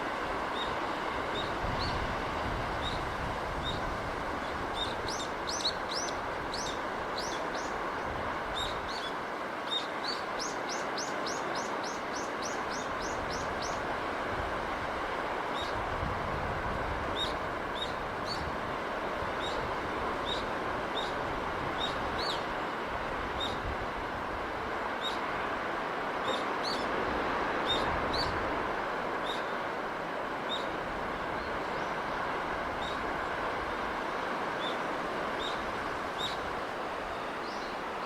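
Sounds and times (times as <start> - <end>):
sea and breeze rushing: 0.0 - 38.0.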